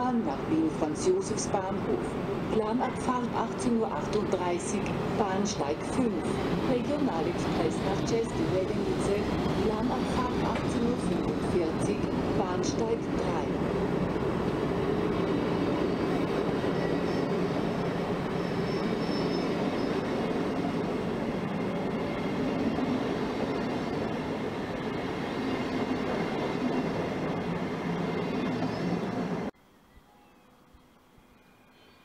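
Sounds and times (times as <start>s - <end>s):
train wheels rumbling: 2.6s - 29.5s.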